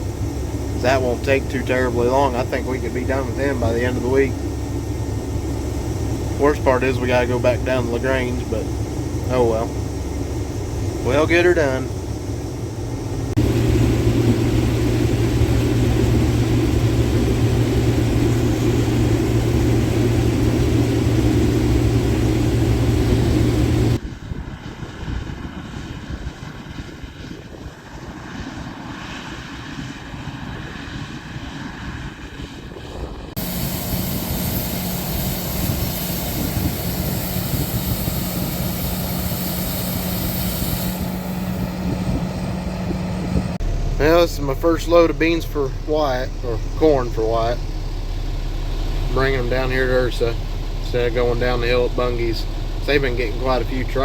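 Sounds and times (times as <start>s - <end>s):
large diesel engines running: 0.0s - 24.6s, 27.8s - 54.0s.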